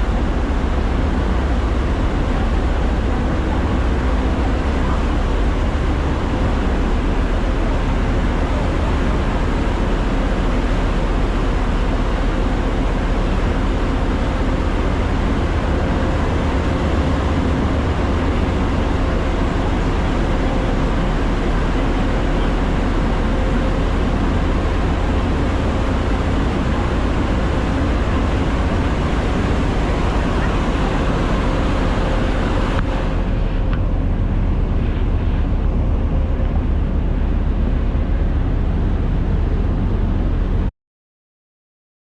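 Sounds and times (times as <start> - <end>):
vehicle rumble and rushing: 0.0 - 40.7.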